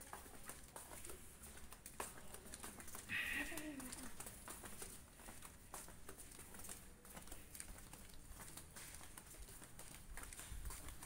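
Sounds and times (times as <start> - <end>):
footsteps on tiled floor: 0.0 - 11.0.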